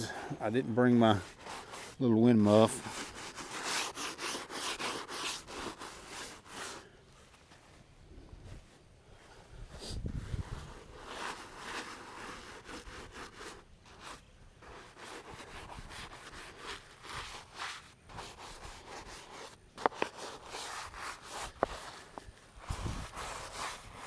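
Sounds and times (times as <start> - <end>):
brush scrubbing stone: 0.0 - 7.0, 10.0 - 24.0.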